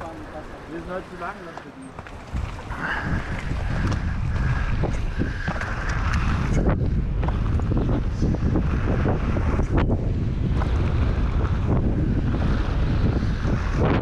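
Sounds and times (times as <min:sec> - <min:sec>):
tyres rumbling on dirt trail: 0:00.0 - 0:14.0
wind on microphone: 0:02.0 - 0:14.0.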